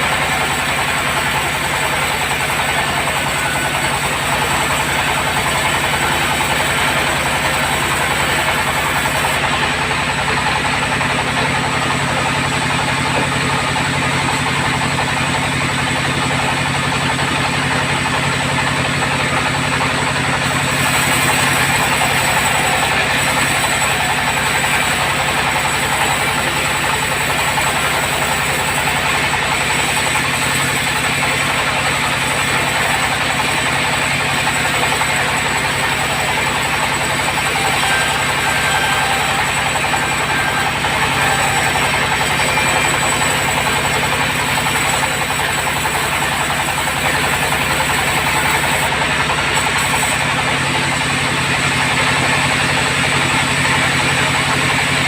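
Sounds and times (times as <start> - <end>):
bandsaw blade cutting timber: 0.0 - 15.4, 19.0 - 51.2
sawmill drive drone: 0.0 - 55.0.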